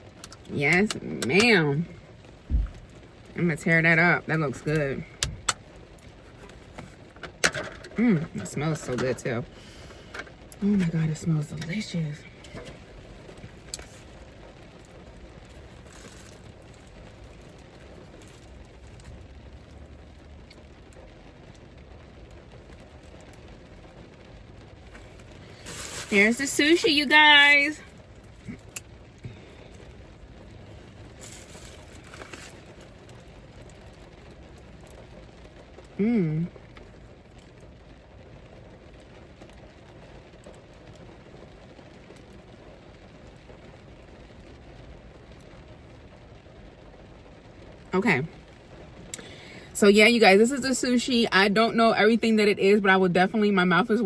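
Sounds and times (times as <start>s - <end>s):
low hiss and rumble: 0.0s - 54.0s.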